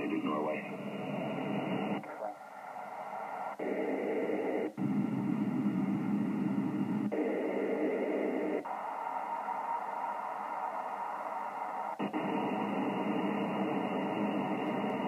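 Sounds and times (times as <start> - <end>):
radio receiver hiss and static: 0.0 - 15.0.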